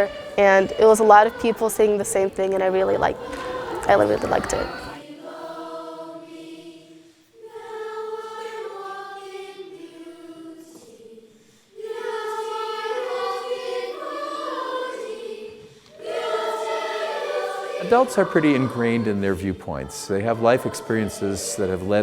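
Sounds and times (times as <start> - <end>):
youth choir singing: 0.0 - 22.0.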